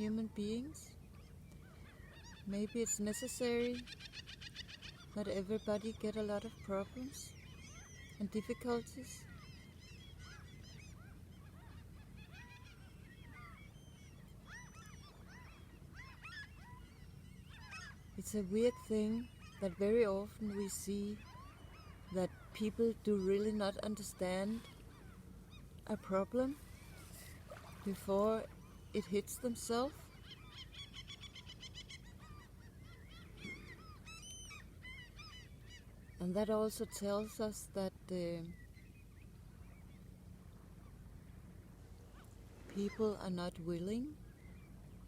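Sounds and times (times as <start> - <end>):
flock of birds calling: 0.0 - 38.6
low steady rumble: 0.0 - 45.0.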